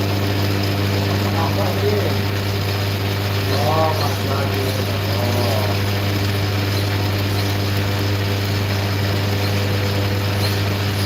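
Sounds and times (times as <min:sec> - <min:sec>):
machine humming with steady tones: 0:00.0 - 0:11.0.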